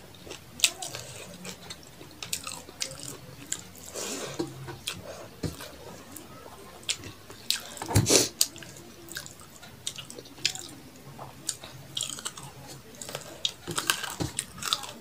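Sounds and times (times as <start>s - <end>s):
close chewing with mouth smacks: 0.1s - 15.0s.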